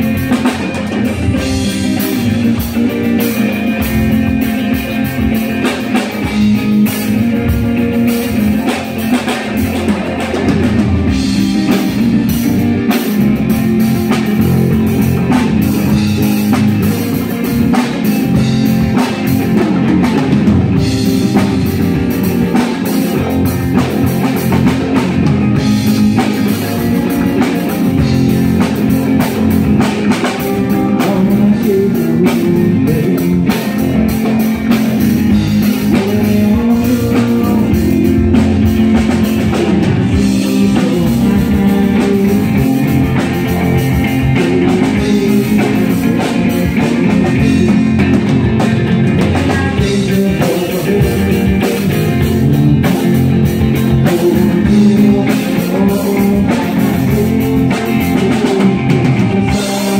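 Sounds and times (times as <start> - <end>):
bass guitar: 0.0 - 59.9
drum kit: 0.0 - 59.9
electric guitar: 0.0 - 59.9.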